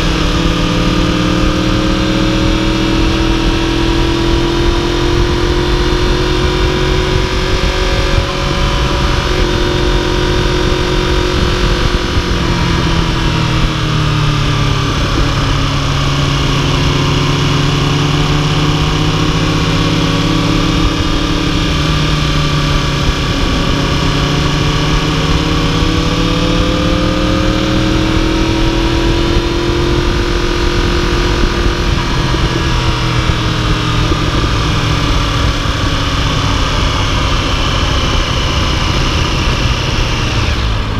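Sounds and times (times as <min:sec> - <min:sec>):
motorcycle engine cruising: 0:00.0 - 0:40.9
wind rushing: 0:02.4 - 0:40.9.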